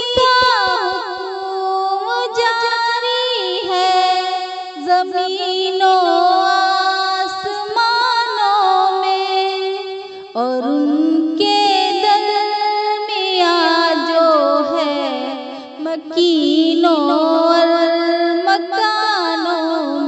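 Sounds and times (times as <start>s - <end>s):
high voice singing: 0.0s - 9.6s, 10.4s - 20.0s.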